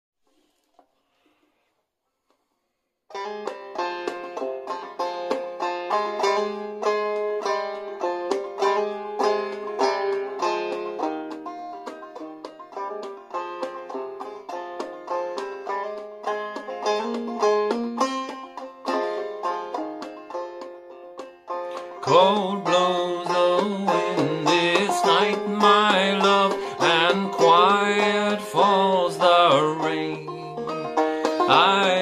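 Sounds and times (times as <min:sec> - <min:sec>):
banjo playing: 0:03.1 - 0:32.0.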